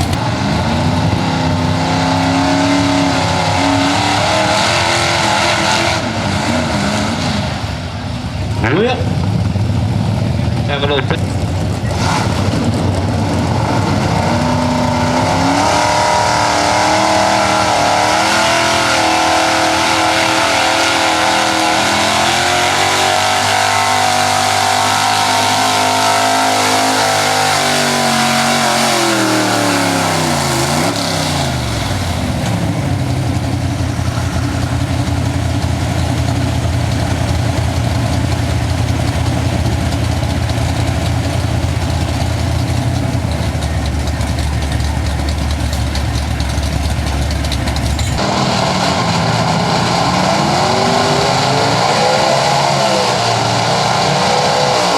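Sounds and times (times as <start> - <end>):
truck engine idling: 0.0 - 4.2, 4.8 - 48.2
truck engine at full throttle: 0.0 - 54.9.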